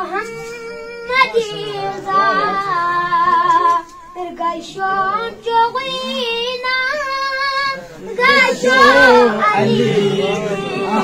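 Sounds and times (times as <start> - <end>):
boy singing into a microphone: 0.0 - 11.0.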